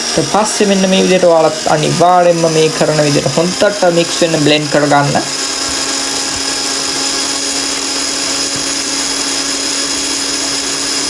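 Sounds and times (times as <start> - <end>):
electric blender running: 0.0 - 11.0.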